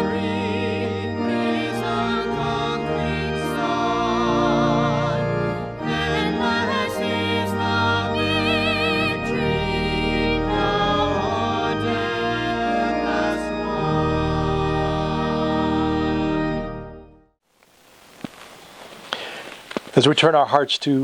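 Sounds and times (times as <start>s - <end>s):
choir singing with accompaniment: 0.0s - 17.1s.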